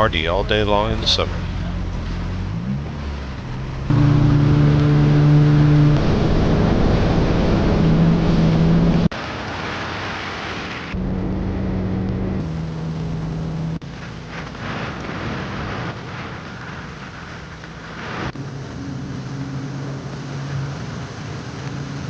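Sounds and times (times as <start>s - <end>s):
jet ski engine humming: 0.0s - 9.1s, 10.9s - 22.0s
water rushing: 0.0s - 22.0s
wind: 0.0s - 22.0s.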